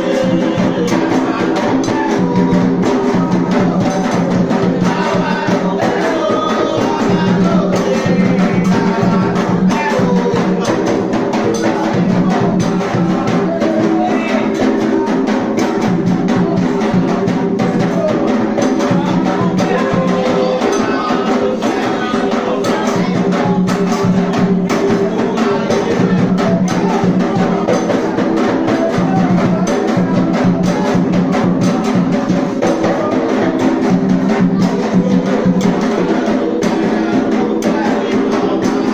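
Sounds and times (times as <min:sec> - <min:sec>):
drums and hand percussion: 0:00.0 - 0:38.9
voices singing a chant: 0:00.0 - 0:38.9.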